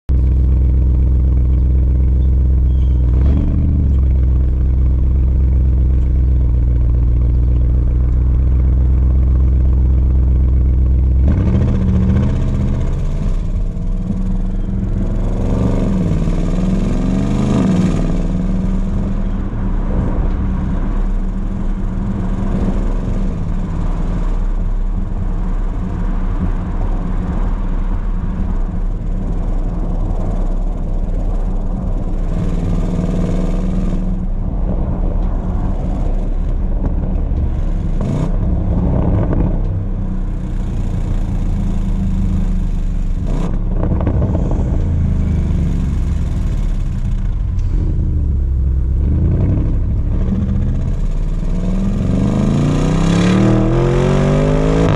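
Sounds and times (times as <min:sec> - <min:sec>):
car engine idling: 0:00.1 - 0:54.9
car exhaust revving while accelerating: 0:00.1 - 0:54.9
tyre and road noise: 0:00.1 - 0:54.9.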